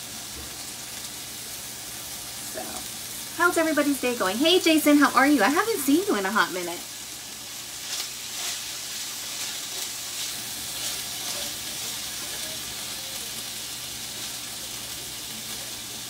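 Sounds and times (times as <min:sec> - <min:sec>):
chicken sizzling in a skillet: 0:00.0 - 0:16.0.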